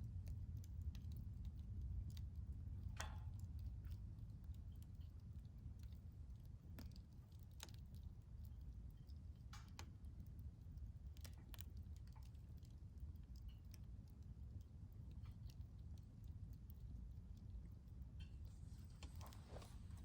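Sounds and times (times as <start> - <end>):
fire low rumble: 0.0 - 20.0
wood fire crackling: 0.0 - 20.0.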